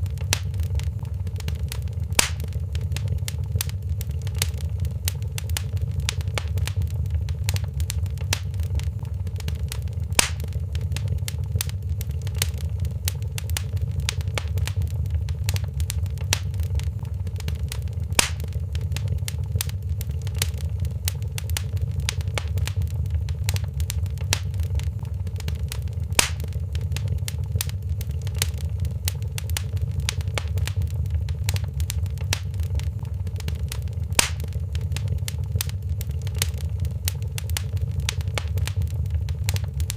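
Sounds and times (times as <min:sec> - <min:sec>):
sharp fire pops: 0:00.0 - 0:39.9
steady low rumble: 0:00.0 - 0:39.9
wood fire crackling: 0:00.0 - 0:39.9.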